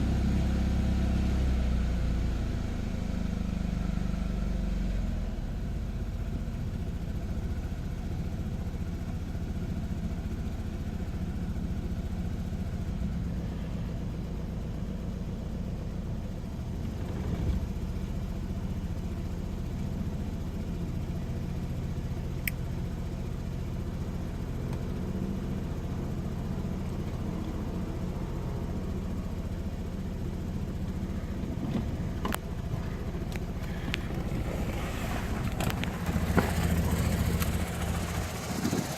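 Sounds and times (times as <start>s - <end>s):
car engine idling roughly: 5.7s - 38.9s.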